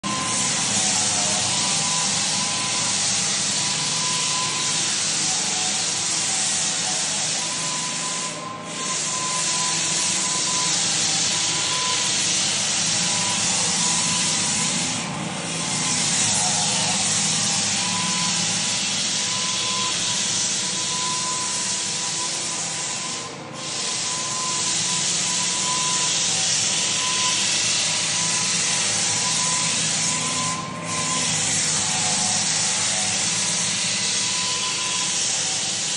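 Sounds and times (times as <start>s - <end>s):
machine motor whining: 0.0s - 35.9s.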